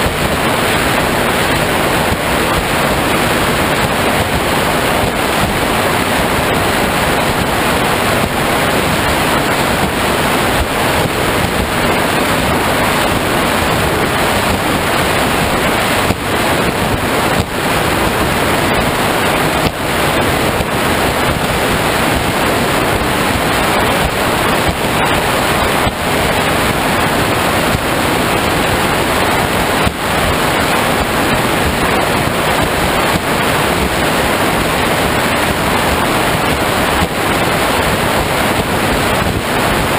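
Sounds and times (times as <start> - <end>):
water rushing past hull: 0.0 - 39.9
wind blasting microphone: 0.0 - 39.9.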